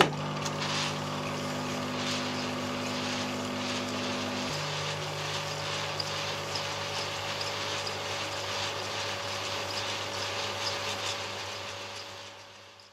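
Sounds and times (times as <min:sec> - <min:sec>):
film projector running: 0:00.0 - 0:12.9.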